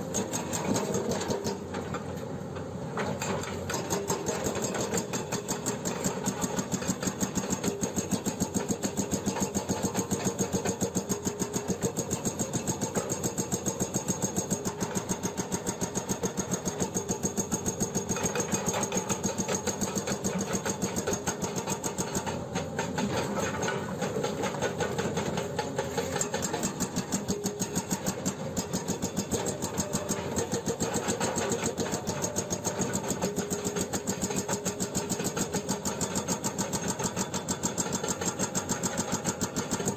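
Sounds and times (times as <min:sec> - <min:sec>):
hydraulic breaker hammering rock: 0:03.0 - 0:39.9.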